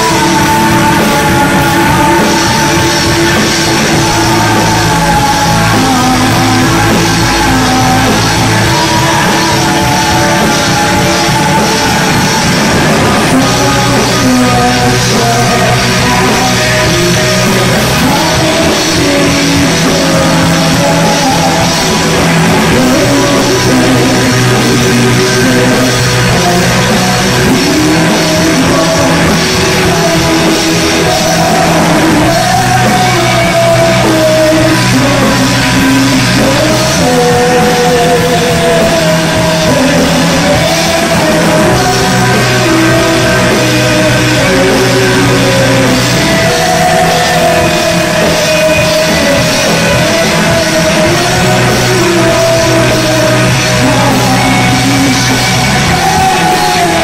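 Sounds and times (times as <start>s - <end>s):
bass guitar: 0.0s - 57.0s
drums: 0.0s - 57.0s
electric guitars: 0.0s - 57.0s.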